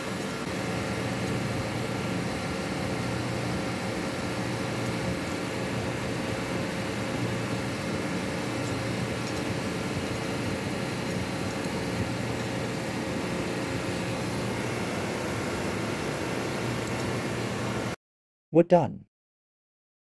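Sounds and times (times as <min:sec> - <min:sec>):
compressor machinery drone: 0:00.0 - 0:18.0.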